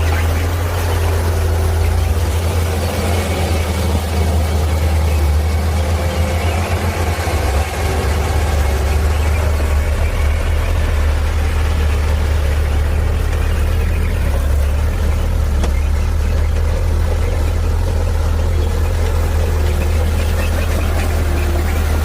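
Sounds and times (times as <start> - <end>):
heavy diesel machine engine drone: 0.0 - 22.0.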